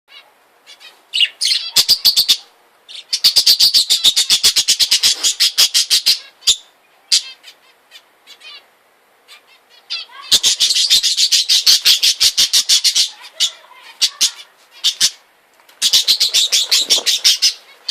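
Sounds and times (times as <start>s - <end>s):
cage birds chirping: 0.1s - 17.9s.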